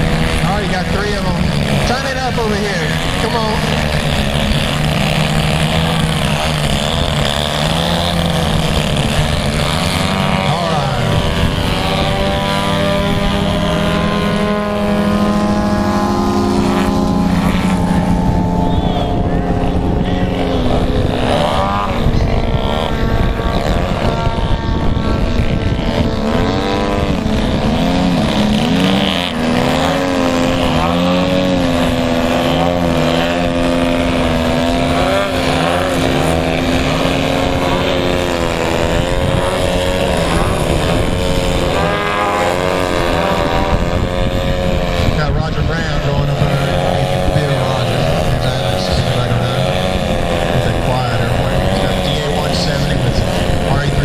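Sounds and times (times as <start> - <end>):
model airplane engines: 0.0 - 54.0.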